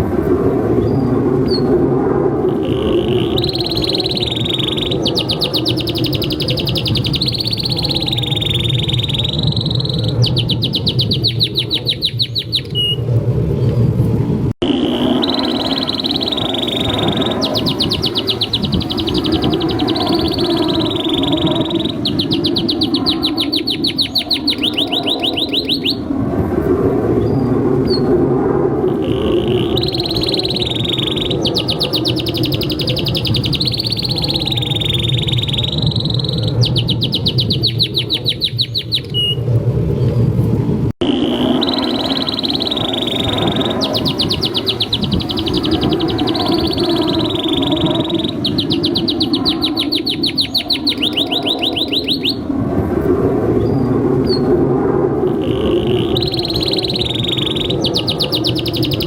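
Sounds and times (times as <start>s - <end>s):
canary singing: 2.5s - 13.0s, 14.6s - 26.1s, 29.0s - 39.4s, 41.0s - 52.4s, 55.4s - 59.0s.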